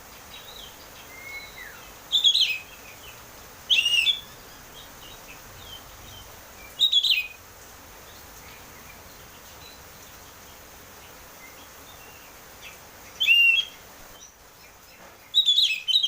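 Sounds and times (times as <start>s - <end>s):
bird singing loud phrases: 0.1s - 7.4s, 8.0s - 16.0s
faint bird chirps: 0.1s - 7.4s, 8.0s - 16.0s.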